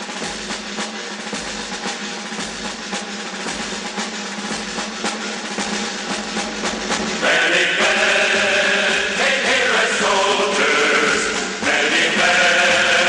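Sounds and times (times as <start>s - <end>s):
orchestral march: 0.0s - 13.0s
snare drum rolling: 0.0s - 13.0s.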